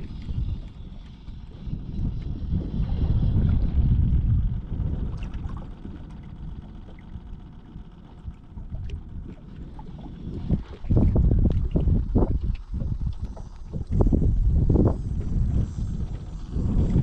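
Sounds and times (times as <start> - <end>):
water lapping against boat hull: 0.0 - 17.0
wind buffeting microphone: 0.0 - 17.0.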